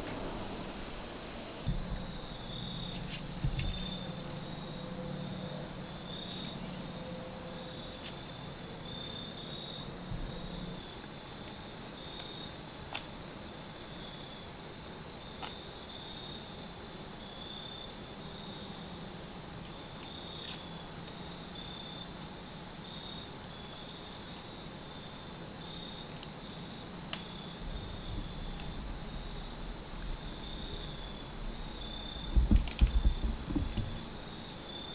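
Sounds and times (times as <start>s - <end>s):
insect chirps: 0.0s - 34.9s
insect high-pitched trill: 0.0s - 34.9s.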